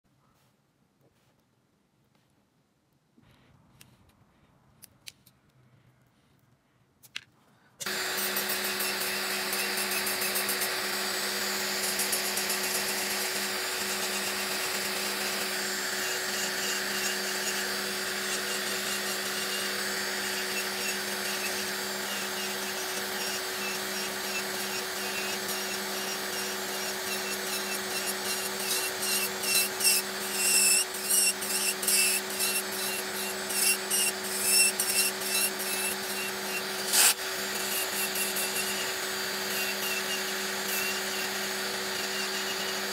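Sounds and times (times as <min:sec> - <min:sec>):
electric nail drill grinding: 0:07.8 - 0:42.9.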